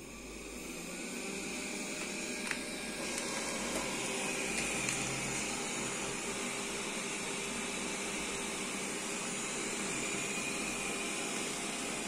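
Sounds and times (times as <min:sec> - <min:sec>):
vacuum fan whirring: 0:00.0 - 0:12.0.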